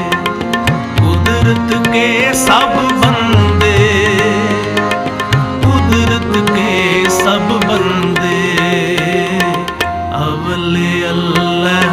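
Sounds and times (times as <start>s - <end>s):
tabla drumming: 0.0s - 11.9s.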